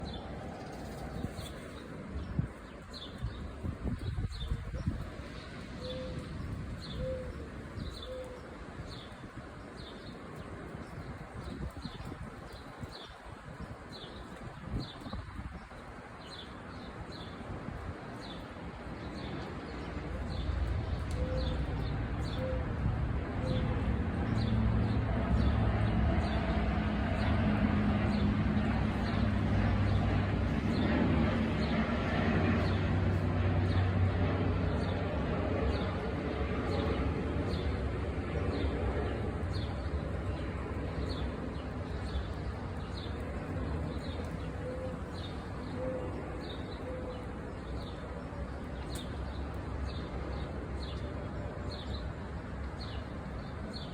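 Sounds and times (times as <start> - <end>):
low rumble of traffic: 0.0 - 53.9.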